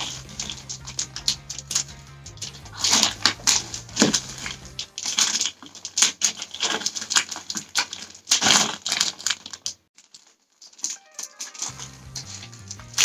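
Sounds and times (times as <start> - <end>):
packaging crinkling and rustling: 2.4 - 13.0.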